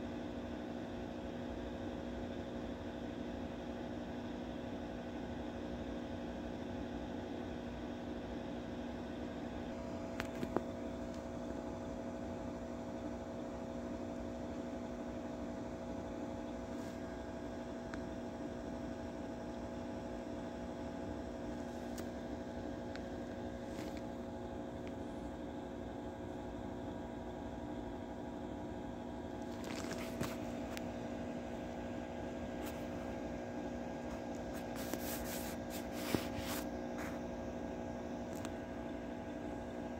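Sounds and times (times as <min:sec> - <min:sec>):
electrical fan hum: 0:00.0 - 0:39.9.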